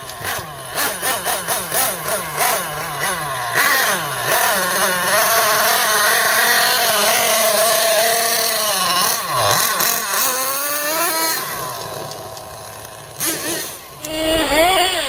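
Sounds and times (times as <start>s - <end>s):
rc truck engine revving: 0.0s - 15.0s.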